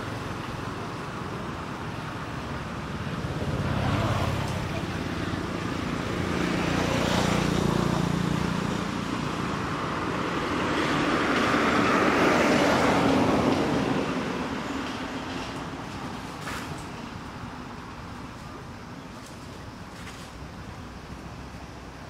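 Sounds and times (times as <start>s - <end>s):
passing road vehicles rushing: 0.0s - 22.0s.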